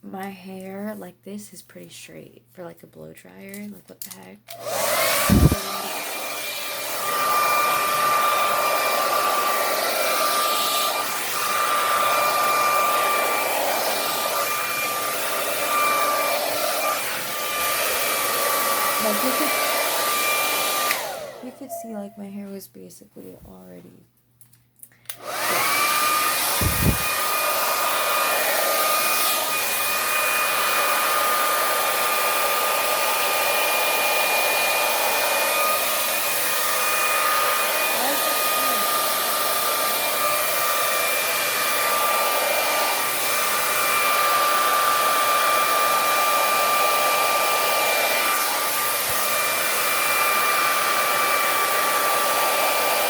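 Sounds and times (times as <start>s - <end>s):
hair dryer running: 4.5s - 22.4s, 25.1s - 53.0s.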